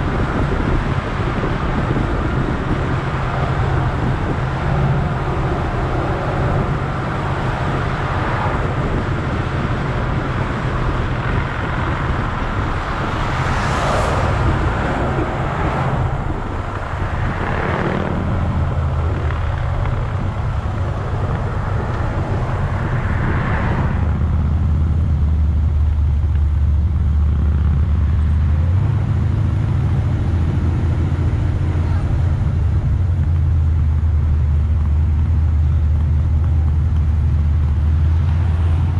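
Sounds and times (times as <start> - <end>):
car engine and exhaust droning: 0.0 - 38.9
passing traffic: 0.0 - 38.9.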